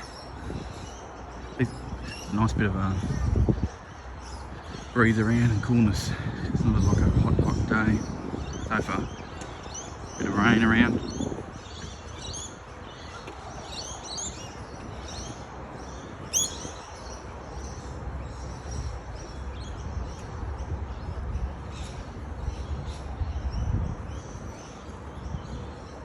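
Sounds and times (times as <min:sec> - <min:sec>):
small birds chirping: 0:00.0 - 0:26.0
wind rumble on microphone: 0:00.0 - 0:26.0.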